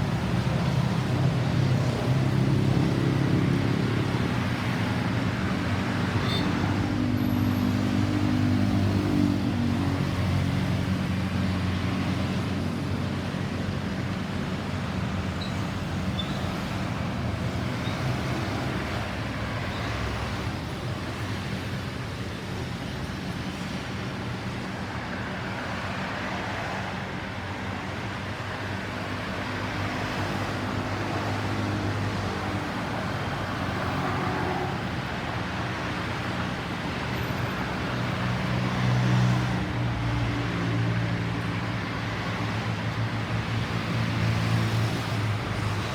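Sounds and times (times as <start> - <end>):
tyre and road noise: 0.0 - 45.9.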